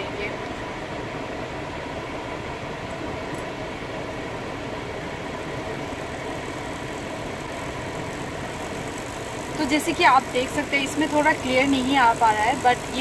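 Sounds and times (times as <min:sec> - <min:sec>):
air rushing through vents: 0:00.0 - 0:13.0
engine idling hum: 0:00.0 - 0:13.0.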